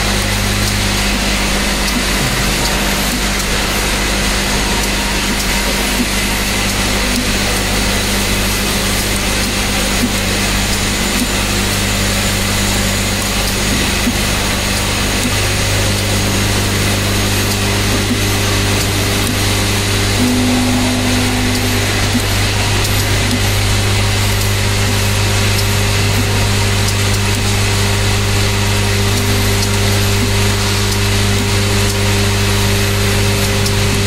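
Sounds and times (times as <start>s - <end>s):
low machine hum: 0.0s - 32.8s.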